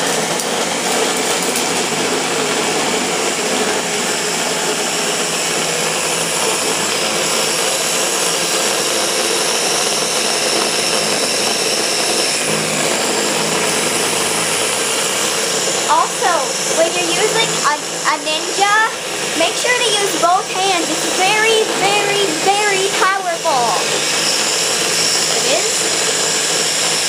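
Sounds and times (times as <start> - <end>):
blender motor running: 0.0 - 27.0.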